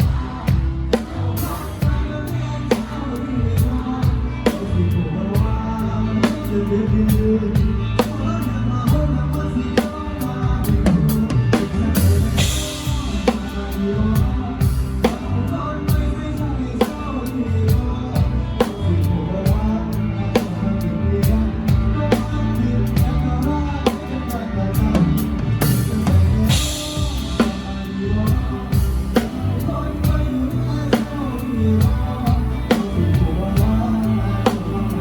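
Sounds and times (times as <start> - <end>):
live band music: 0.0 - 35.0.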